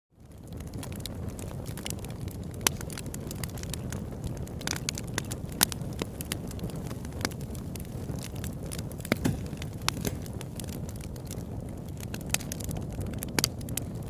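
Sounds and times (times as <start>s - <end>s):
sharp crackles and pops: 0.1s - 14.0s.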